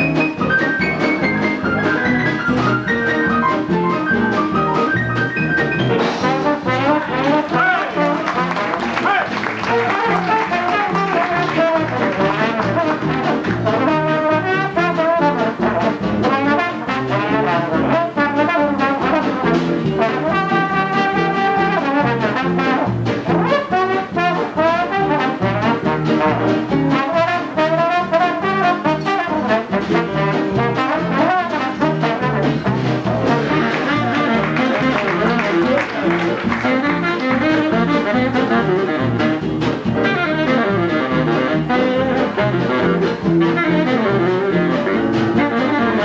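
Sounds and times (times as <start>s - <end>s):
swing jazz band playing: 0.0s - 46.0s
trombone: 0.0s - 46.0s.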